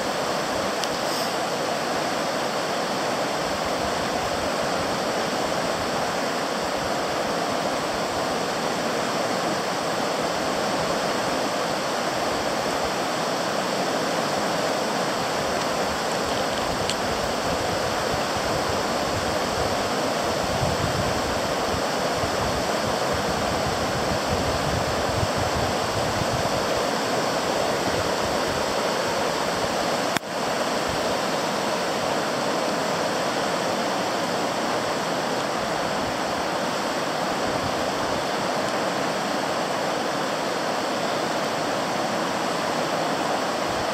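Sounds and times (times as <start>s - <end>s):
floodwater rushing roar: 0.0s - 43.9s.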